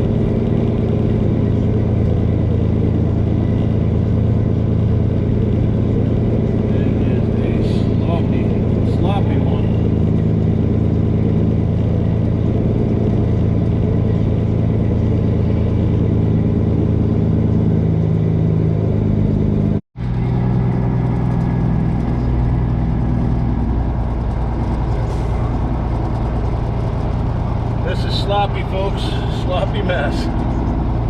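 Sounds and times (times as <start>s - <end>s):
truck diesel engine from cab: 0.0s - 31.0s.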